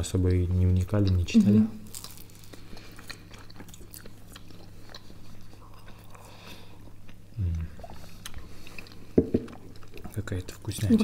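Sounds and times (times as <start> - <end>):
chewing crisp croissant: 0.7 - 10.9.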